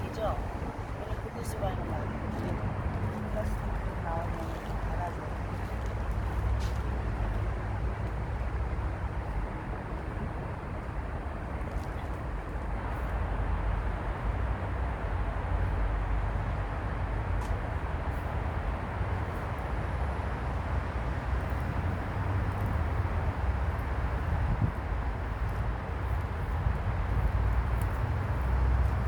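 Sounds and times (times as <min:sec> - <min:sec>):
wind blowing across microphone: 0:00.0 - 0:29.0.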